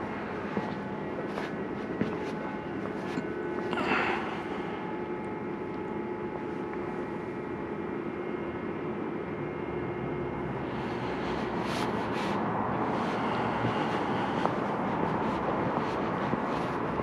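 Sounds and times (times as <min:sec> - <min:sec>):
droning church background noise: 0:00.0 - 0:17.0
faint steady hum: 0:00.0 - 0:17.0.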